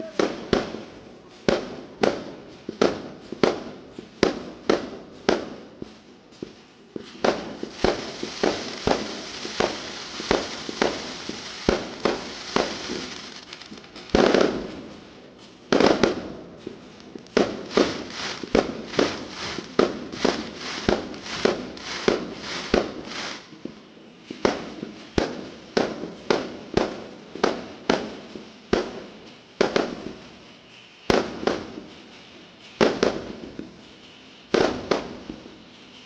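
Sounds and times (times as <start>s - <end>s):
fireworks bangs: 0.0s - 30.3s, 31.1s - 32.0s, 32.6s - 33.8s, 34.5s - 35.5s
fireworks crackling: 0.0s - 36.0s.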